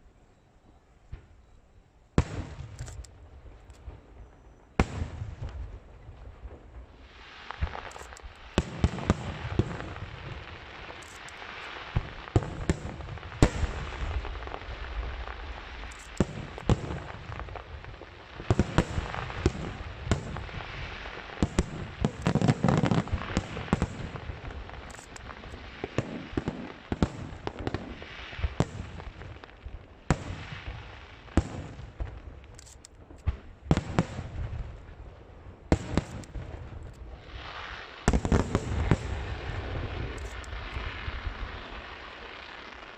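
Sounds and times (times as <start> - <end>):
fireworks crackling: 2.2 - 42.9.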